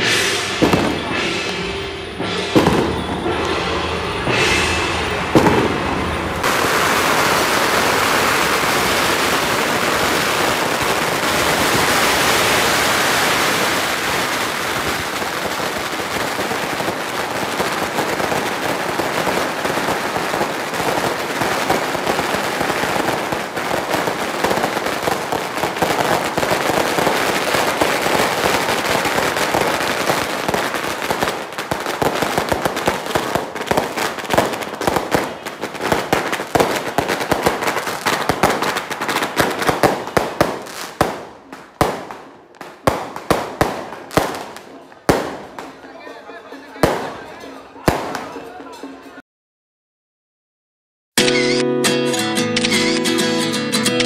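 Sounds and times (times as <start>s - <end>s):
sharp fireworks bangs: 0.0s - 46.0s
firecrackers crackling: 0.0s - 49.2s.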